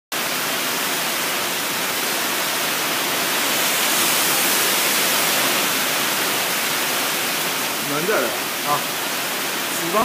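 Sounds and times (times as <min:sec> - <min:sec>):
heavy rain falling: 0:00.1 - 0:10.0.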